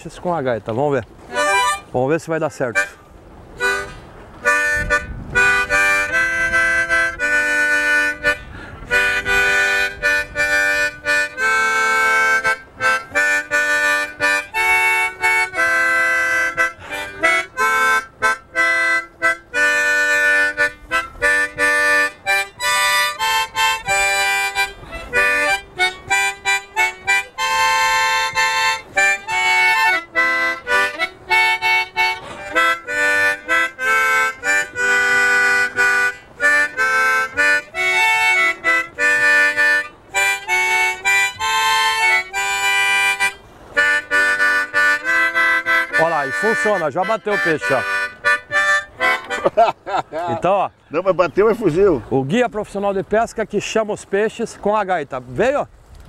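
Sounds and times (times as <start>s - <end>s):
harmonica tune: 1.2s - 2.0s, 2.6s - 52.1s.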